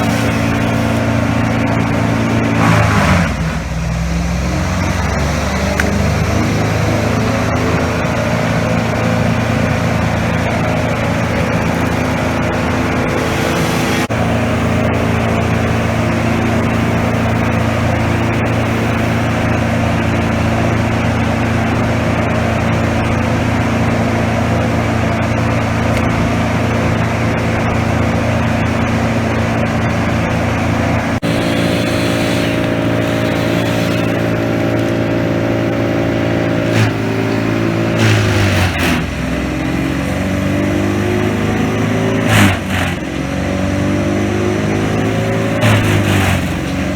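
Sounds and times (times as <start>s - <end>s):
large engine running: 0.0s - 46.9s.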